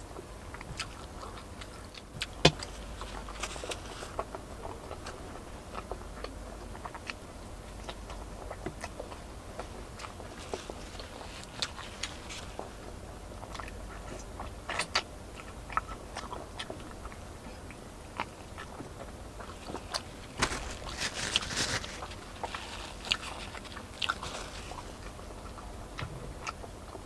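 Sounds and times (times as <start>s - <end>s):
chewing fried chicken: 0.0s - 27.0s.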